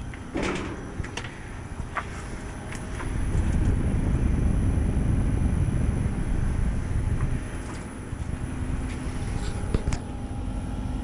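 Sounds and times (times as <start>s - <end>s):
air conditioner unit running: 0.0s - 11.0s.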